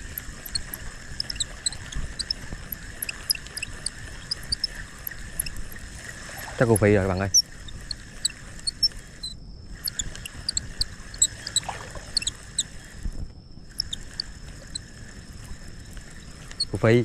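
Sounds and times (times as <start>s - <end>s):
high squeaks and chirps: 0.0s - 12.9s, 13.7s - 15.0s
fishing reel cranking: 0.0s - 13.0s, 13.7s - 17.0s
faint high whine: 0.0s - 17.0s.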